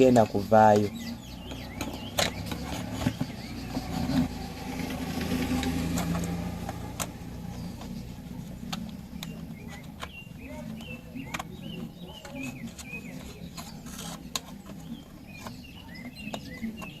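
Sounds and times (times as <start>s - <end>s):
low engine hum: 1.0s - 17.0s.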